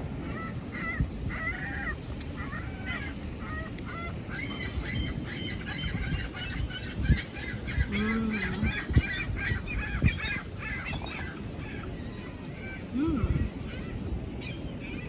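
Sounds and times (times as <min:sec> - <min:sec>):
low outdoor rumble: 0:00.0 - 0:15.0
birds squawking: 0:00.2 - 0:12.9.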